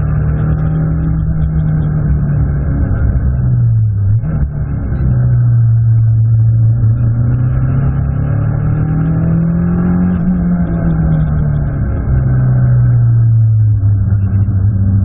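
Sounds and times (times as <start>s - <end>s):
race car engine: 0.0s - 15.0s.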